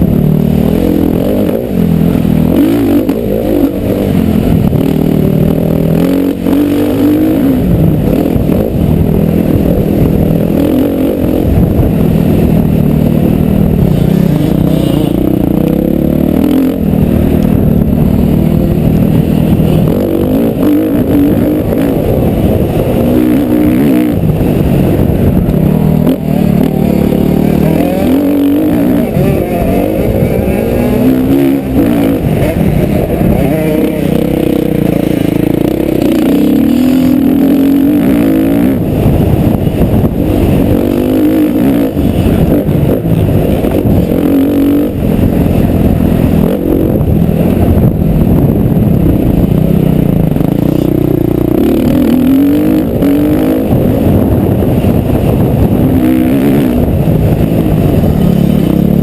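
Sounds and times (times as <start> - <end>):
motocross motorcycle engine revving: 0.0 - 59.0.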